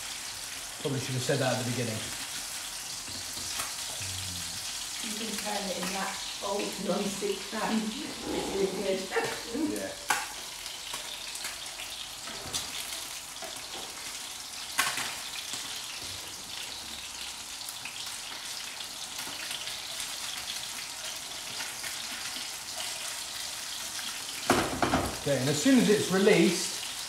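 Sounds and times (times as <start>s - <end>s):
fish sizzling in a pan: 0.0s - 27.0s.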